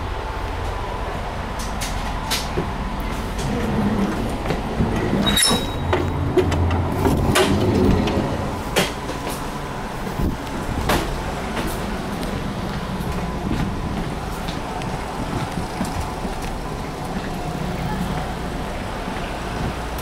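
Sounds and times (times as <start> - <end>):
train interior low hum: 0.0 - 20.0.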